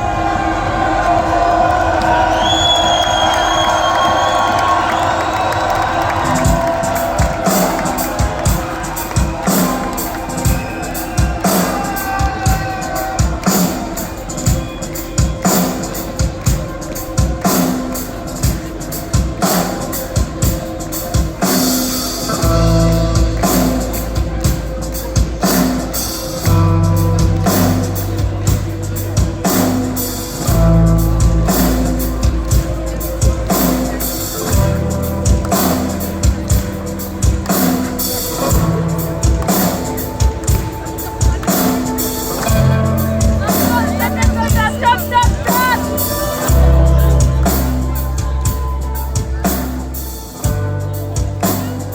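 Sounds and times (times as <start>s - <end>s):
live rock band playing: 5.2s - 51.9s.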